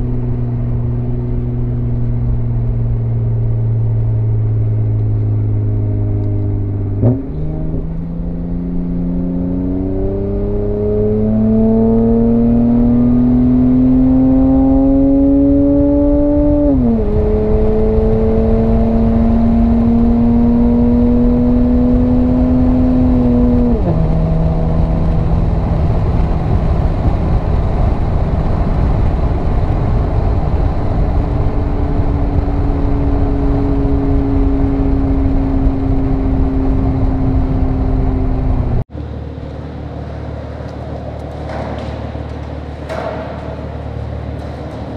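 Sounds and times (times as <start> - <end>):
car exhaust accelerating: 0.0 - 44.9.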